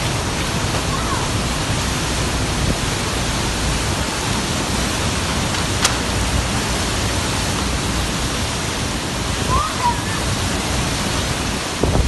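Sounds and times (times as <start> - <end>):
driving rain: 0.0 - 12.0
strong wind: 0.0 - 12.0.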